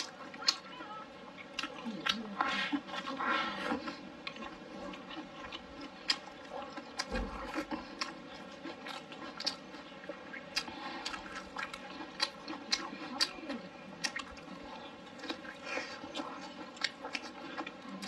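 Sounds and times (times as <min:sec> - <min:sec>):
close chewing of food: 0:00.0 - 0:18.0.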